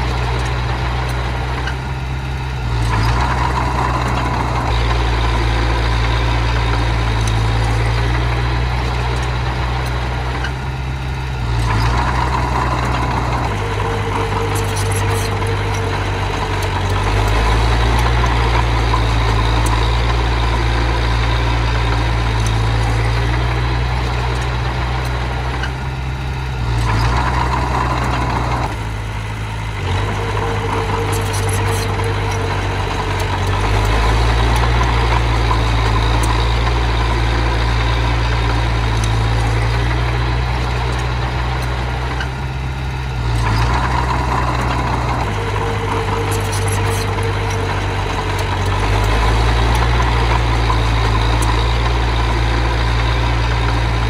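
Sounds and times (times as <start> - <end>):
small bulldozer engine running: 0.0 - 54.0.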